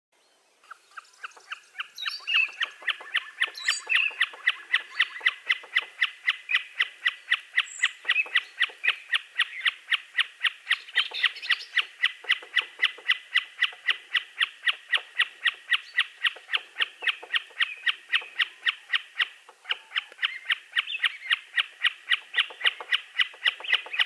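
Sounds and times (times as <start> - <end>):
bird chirping rapidly: 0.6 - 24.0.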